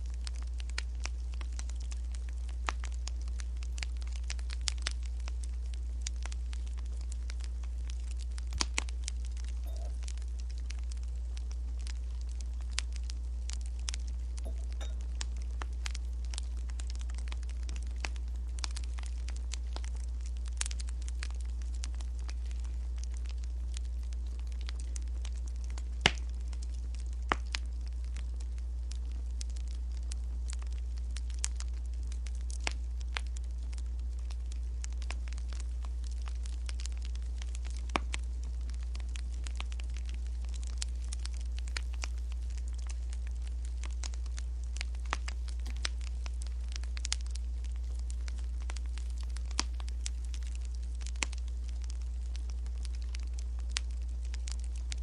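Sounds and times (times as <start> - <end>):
low hum: 0.0 - 55.0
wood fire crackling: 0.0 - 55.0.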